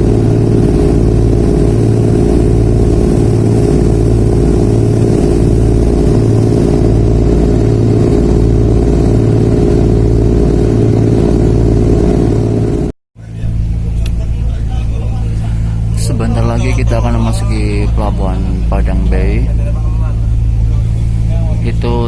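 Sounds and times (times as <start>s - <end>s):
diesel engines droning: 0.0s - 22.0s.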